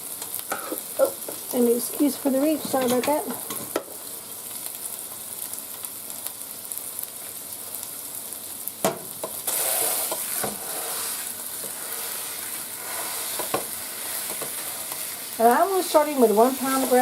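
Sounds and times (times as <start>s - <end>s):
meat sizzling in a skillet: 0.0s - 17.0s.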